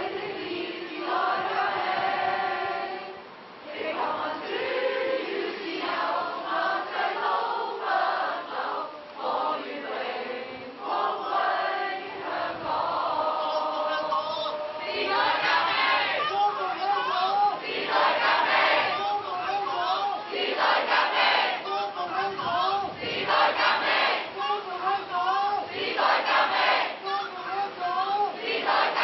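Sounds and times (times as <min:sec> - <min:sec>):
crowd singing: 0:00.0 - 0:24.4, 0:25.1 - 0:27.1, 0:28.3 - 0:29.0.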